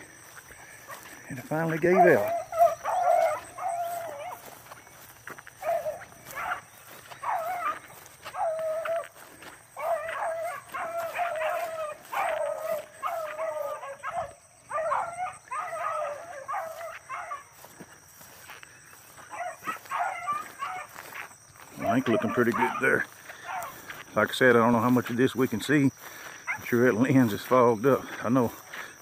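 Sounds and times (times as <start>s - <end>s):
hounds baying and howling: 0.0s - 29.0s.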